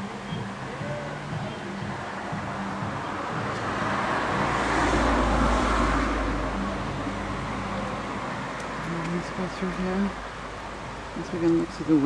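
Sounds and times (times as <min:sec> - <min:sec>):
car passing by: 0:00.0 - 0:12.0.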